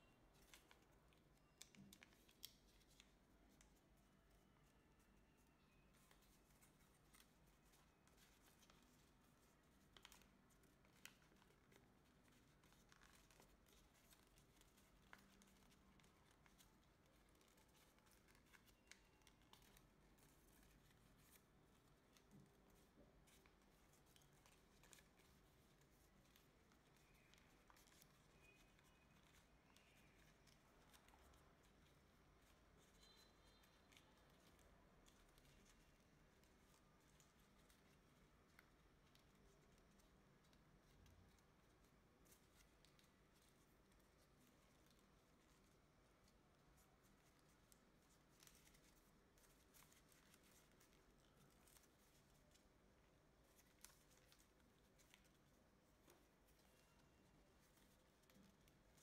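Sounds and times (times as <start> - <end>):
paper rustling and crinkling: 0.0 - 59.0.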